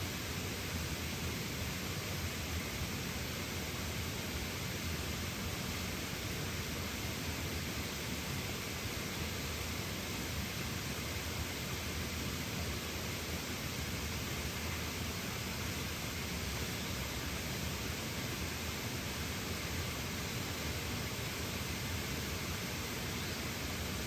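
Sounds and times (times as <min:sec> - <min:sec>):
small waterfall rushing: 0:00.0 - 0:24.0.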